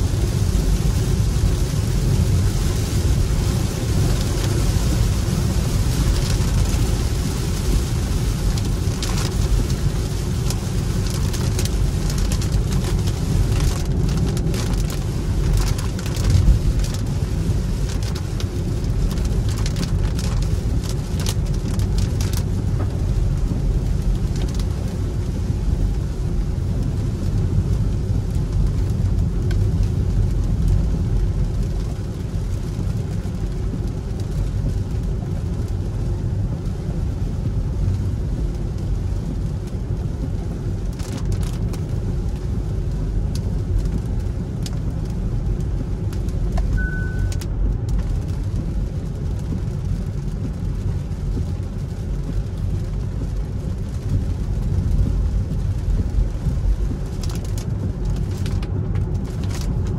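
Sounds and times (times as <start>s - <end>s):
low tyre rumble and road noise: 0.0s - 59.9s
rain and spray hiss: 0.0s - 59.9s.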